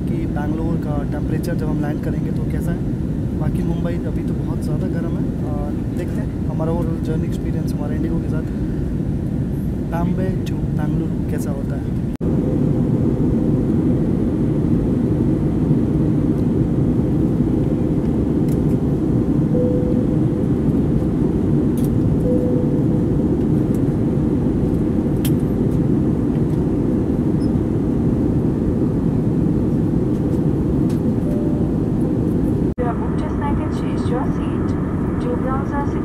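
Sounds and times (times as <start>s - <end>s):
aircraft cabin engine drone: 0.0s - 36.0s.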